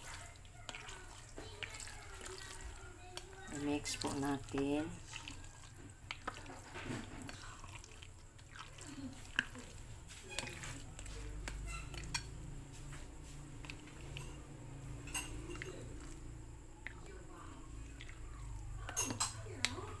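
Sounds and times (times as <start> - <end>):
spatula stirring thick wet mix: 0.0 - 20.0.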